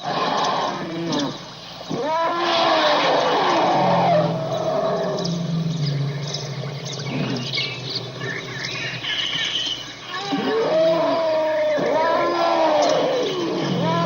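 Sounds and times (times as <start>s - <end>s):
low rumbling animal sound: 0.0s - 14.0s
pitched animal call: 0.0s - 14.0s
small birds chirping: 0.0s - 14.0s.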